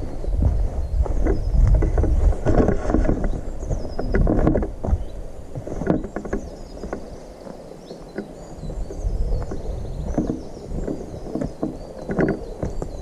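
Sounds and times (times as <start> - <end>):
microphone handling rumble: 0.0 - 7.4, 8.1 - 13.0
birds chirping: 0.0 - 13.0.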